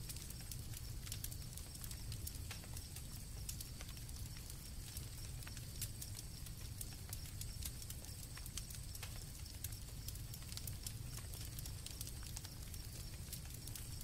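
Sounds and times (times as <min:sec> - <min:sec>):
campfire crackling and popping: 0:00.0 - 0:14.0
crickets chirring: 0:00.0 - 0:14.0.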